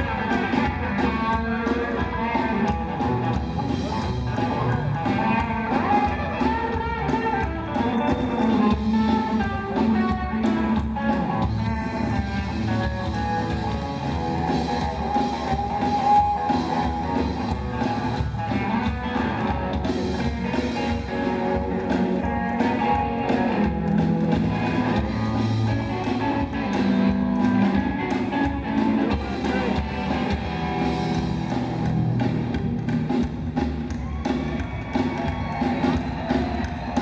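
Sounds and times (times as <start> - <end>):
drum kit: 0.0 - 37.0
electric guitar: 0.0 - 37.0
upright bass: 0.0 - 37.0.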